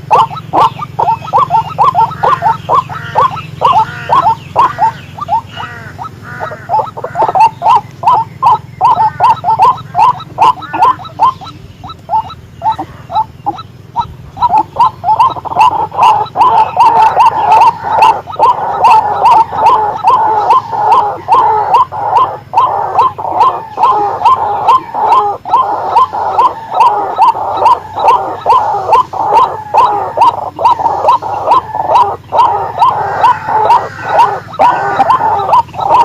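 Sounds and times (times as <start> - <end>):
waterhen croaking calls: 0.0 - 36.0.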